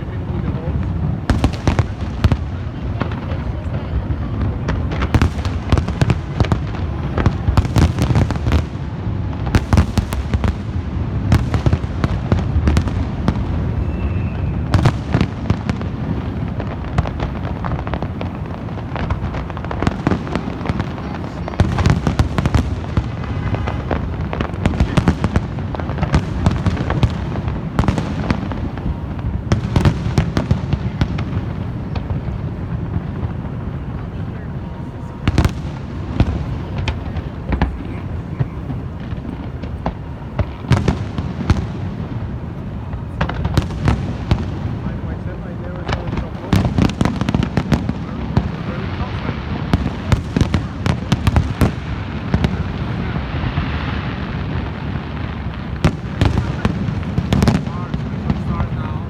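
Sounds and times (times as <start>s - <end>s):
fireworks bangs and crackles: 0.0s - 59.0s
low fireworks rumble: 0.0s - 59.0s.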